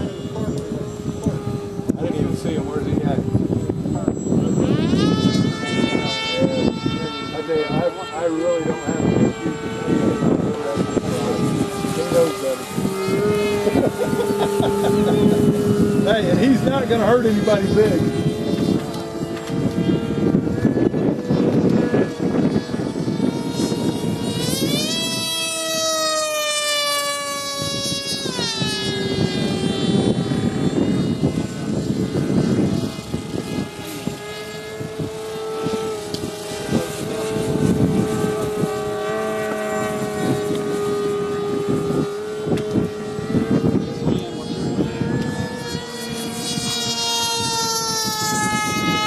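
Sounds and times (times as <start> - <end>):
model plane motor whining: 0.0 - 49.0
wind rumbling on microphone: 0.0 - 49.0.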